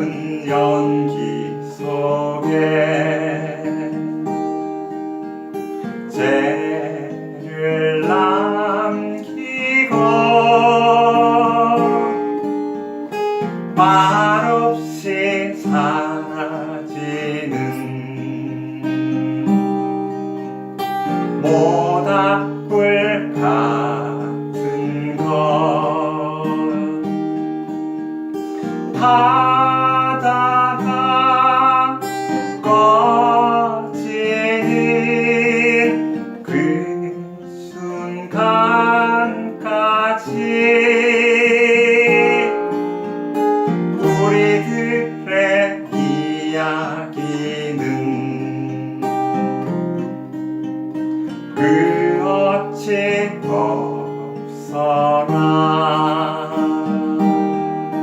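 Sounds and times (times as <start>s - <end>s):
person singing: 0.0s - 4.2s, 5.7s - 20.3s, 21.1s - 27.6s, 28.4s - 42.8s, 43.7s - 49.8s, 51.3s - 58.0s
acoustic guitar strumming: 0.0s - 58.0s.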